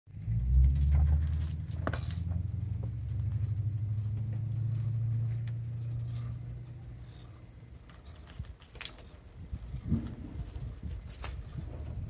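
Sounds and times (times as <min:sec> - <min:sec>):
engine humming: 0:00.1 - 0:12.0
light clicks and ticks: 0:00.3 - 0:12.0.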